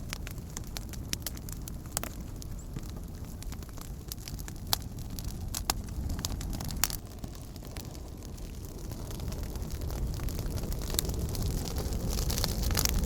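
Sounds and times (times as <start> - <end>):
campfire rumbling: 0.0 - 13.0
fire crackling and popping: 0.0 - 13.0.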